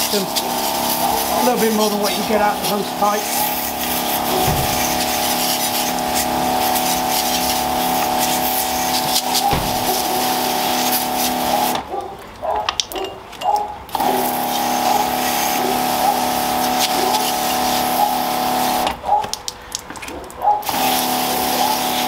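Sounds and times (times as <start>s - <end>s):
water spraying: 0.0s - 11.8s, 14.0s - 19.0s, 20.6s - 22.0s
pressure washer pump humming: 0.0s - 11.9s, 13.9s - 19.0s, 20.6s - 22.0s.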